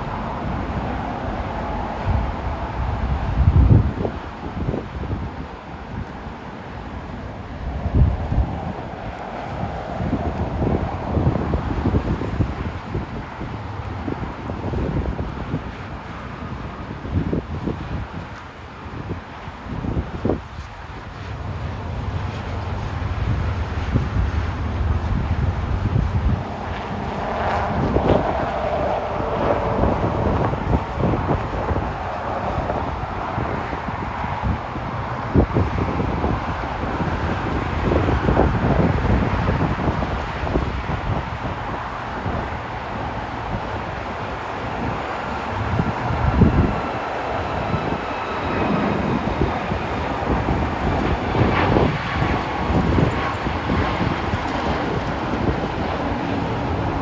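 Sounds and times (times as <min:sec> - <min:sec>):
faint engine whine: 0:00.0 - 0:19.6, 0:20.2 - 0:57.0
jet engines rumbling: 0:00.0 - 0:57.0
wind buffeting microphone: 0:00.0 - 0:57.0.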